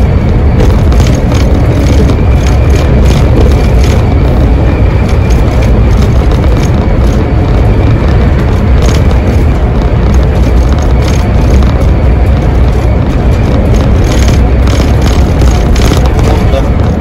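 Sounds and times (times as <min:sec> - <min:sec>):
bus diesel engine drone: 0:00.0 - 0:17.0
tyre and road noise: 0:00.0 - 0:17.0.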